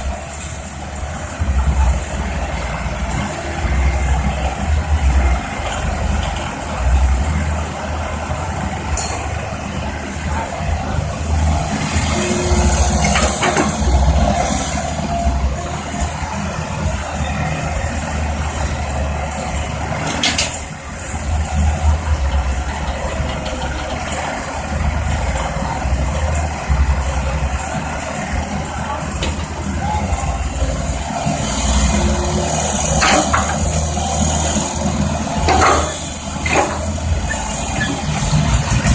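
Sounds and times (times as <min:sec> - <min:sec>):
excavator diesel engine rumble: 0:00.0 - 0:38.9.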